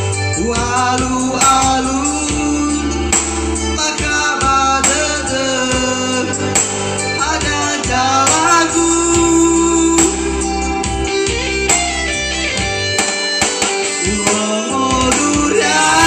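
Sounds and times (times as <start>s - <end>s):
person singing: 0.0s - 12.3s, 13.7s - 16.0s
steady bass: 0.0s - 13.0s, 14.1s - 16.0s
guitar plucked and strummed: 0.0s - 16.0s.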